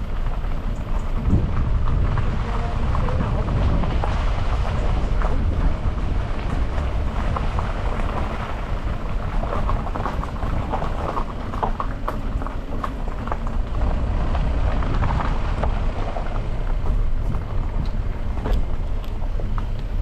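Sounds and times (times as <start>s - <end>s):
car rumbling on gravel: 0.0s - 20.0s
stones crunching under tyres: 0.0s - 20.0s.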